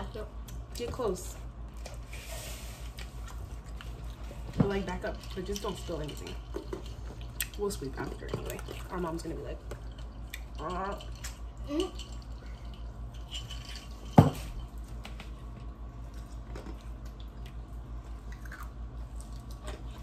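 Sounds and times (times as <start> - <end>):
people chewing: 1.7 - 13.9, 14.8 - 20.0.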